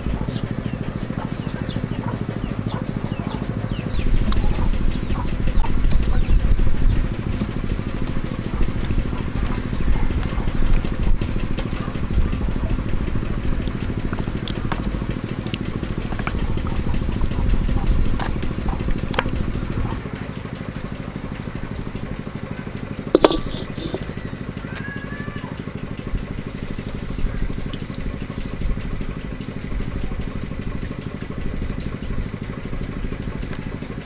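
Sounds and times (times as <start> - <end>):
small engine droning: 0.0 - 34.0.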